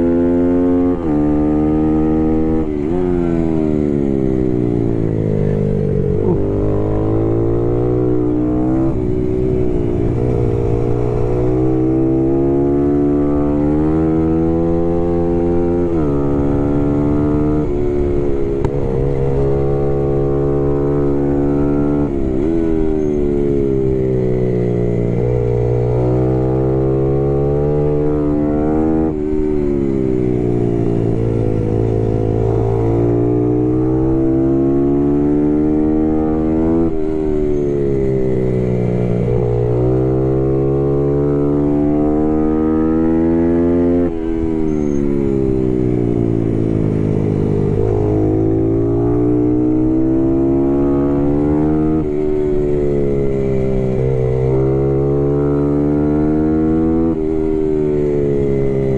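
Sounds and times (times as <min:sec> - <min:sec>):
race motorcycle engine: 0:00.0 - 0:58.9.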